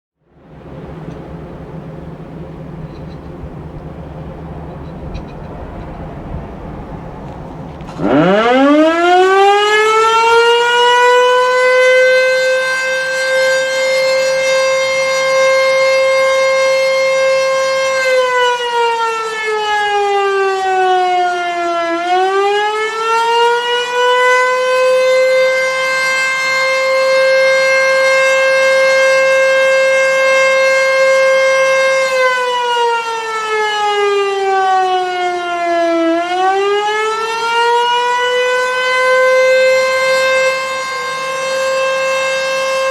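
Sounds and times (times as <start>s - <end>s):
warning siren wailing: 0.2s - 42.9s.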